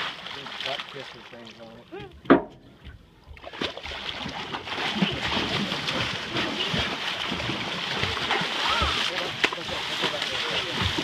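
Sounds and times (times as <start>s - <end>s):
fish thrashing and splashing water: 0.0s - 1.8s, 3.3s - 11.0s.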